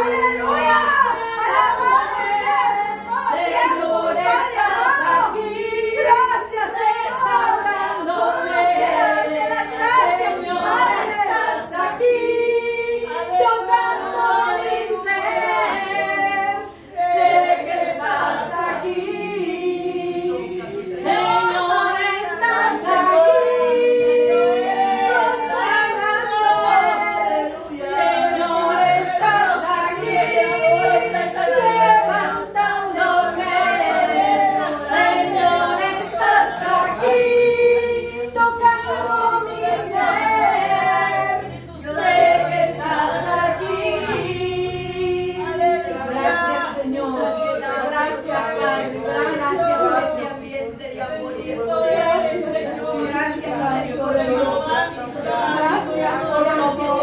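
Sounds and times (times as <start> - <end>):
group singing unaccompanied: 0.0 - 57.0.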